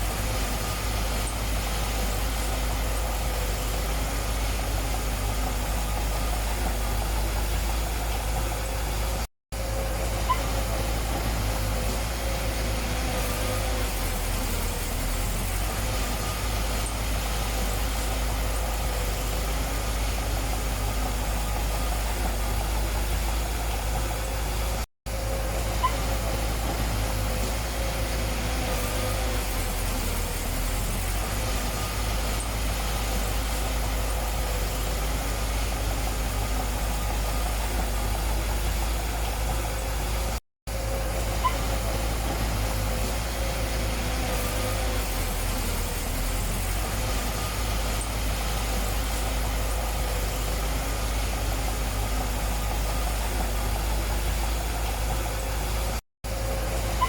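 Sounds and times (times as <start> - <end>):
diesel engine low rumble: 0.0 - 57.0.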